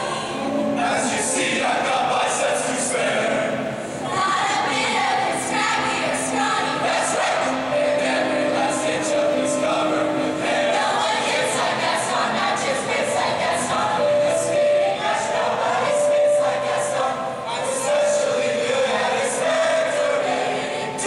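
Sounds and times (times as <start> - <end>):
mixed choir singing: 0.0 - 21.0
musical accompaniment: 0.0 - 21.0.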